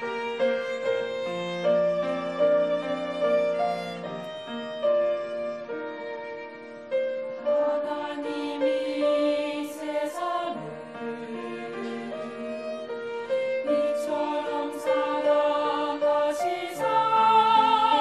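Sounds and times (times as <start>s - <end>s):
piano accompaniment: 0.0s - 18.0s
violin playing hymn melody: 0.0s - 18.0s.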